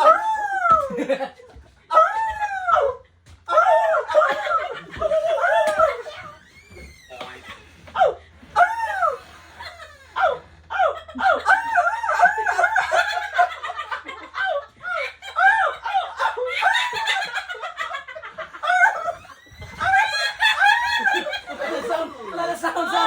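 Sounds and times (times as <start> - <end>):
high-pitched laughing: 3.5 - 6.7, 7.4 - 23.0.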